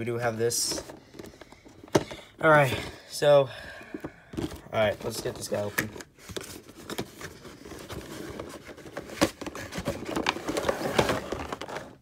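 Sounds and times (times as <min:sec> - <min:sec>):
cardboard and plastic rustling: 0:00.2 - 0:02.9, 0:03.9 - 0:12.0.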